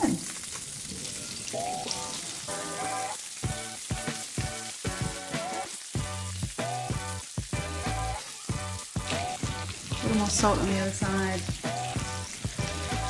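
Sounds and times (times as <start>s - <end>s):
fish sizzling in a frying pan: 0.0s - 13.0s
background music with beat: 1.6s - 13.0s.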